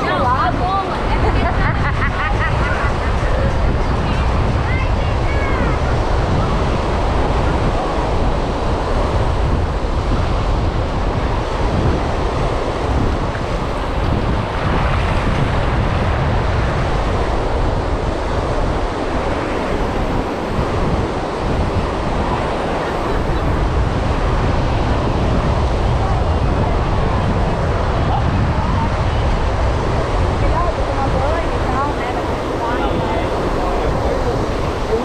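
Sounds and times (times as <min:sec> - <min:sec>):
surf breaking on beach: 0:00.0 - 0:35.0
wind on microphone: 0:00.0 - 0:35.0.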